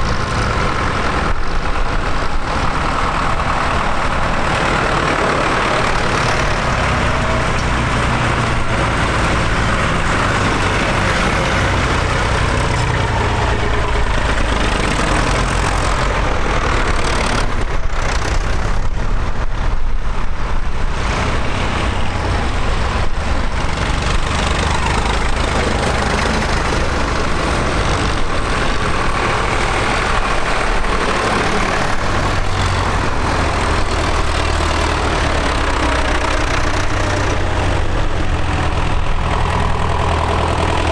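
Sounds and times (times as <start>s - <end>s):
diesel tractor engines running: 0.0s - 40.9s.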